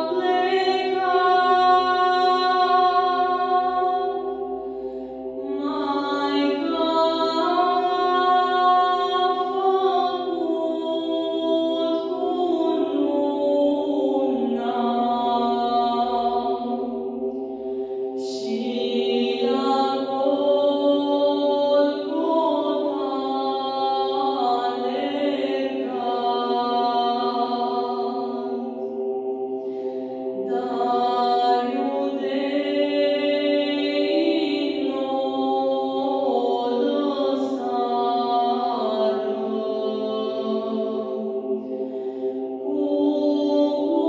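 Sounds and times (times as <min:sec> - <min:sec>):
sustained drone: 0:00.0 - 0:44.0
woman singing chant-like melody: 0:00.0 - 0:44.0.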